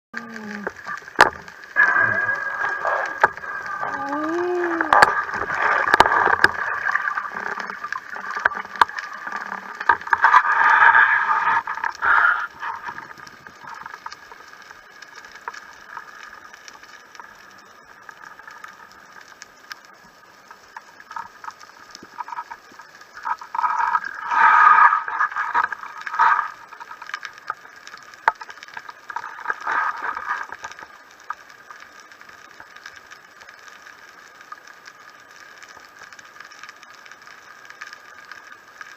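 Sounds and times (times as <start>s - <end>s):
muffled underwater noise: 0.2s - 38.9s
underwater clicks and crackles: 0.2s - 38.9s.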